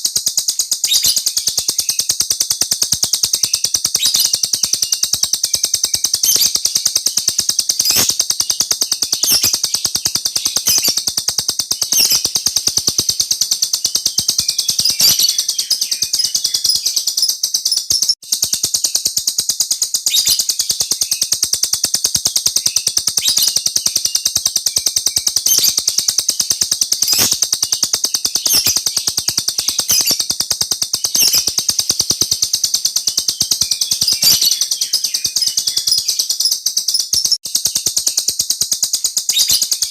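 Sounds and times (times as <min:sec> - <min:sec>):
songbird trilling: 0:00.0 - 0:38.3, 0:39.0 - 0:39.9.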